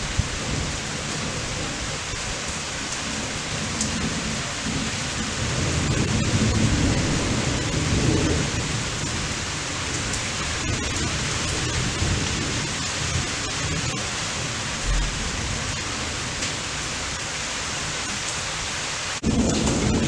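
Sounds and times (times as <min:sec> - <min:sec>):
wind buffeting microphone: 0:00.0 - 0:17.1
thunder rumbling: 0:00.0 - 0:17.9, 0:19.2 - 0:20.0
rain hiss: 0:00.0 - 0:20.0.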